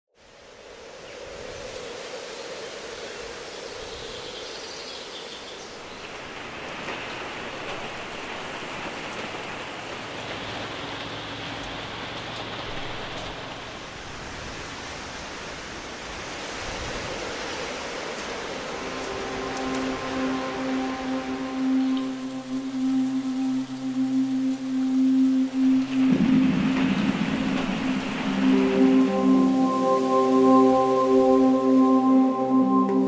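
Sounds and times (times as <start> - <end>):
rushing water: 0.2 - 33.0.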